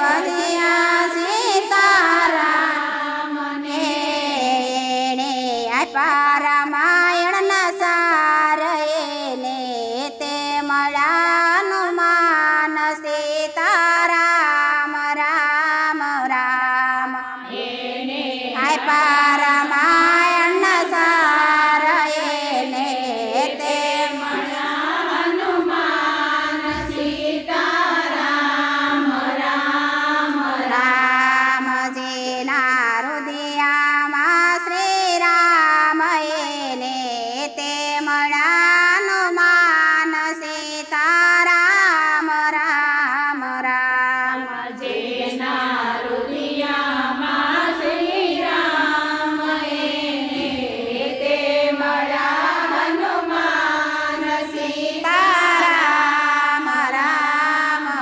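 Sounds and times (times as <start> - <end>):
women singing devotional song: 0.0 - 58.0.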